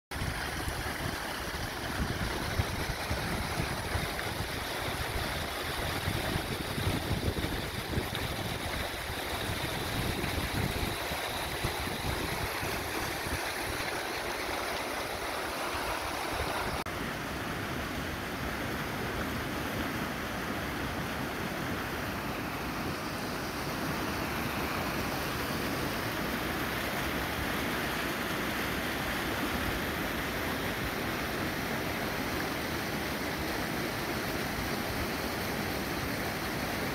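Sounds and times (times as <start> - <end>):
creek floodwater rushing: 0.1 - 36.9.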